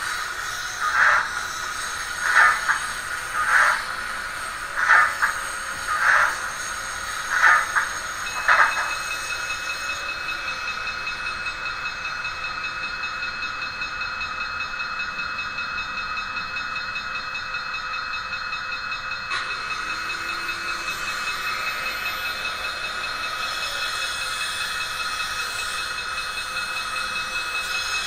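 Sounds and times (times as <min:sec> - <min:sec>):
model train high whine: 0:00.0 - 0:28.0.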